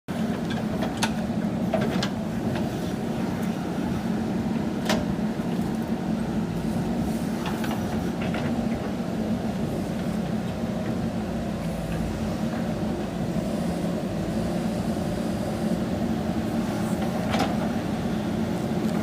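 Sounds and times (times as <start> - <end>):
diesel engine running: 0.1 - 19.0.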